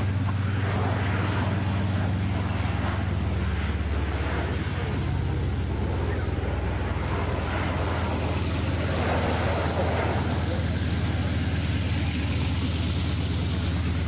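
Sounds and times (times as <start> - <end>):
turboprop aircraft flying overhead: 0.0 - 14.0.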